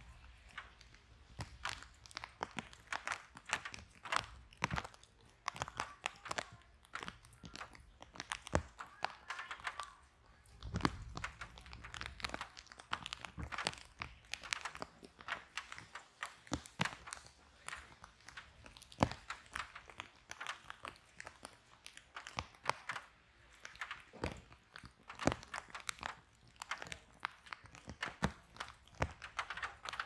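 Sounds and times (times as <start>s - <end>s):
fire popping and snapping: 0.0s - 30.0s
wood fire crackling: 0.0s - 30.0s.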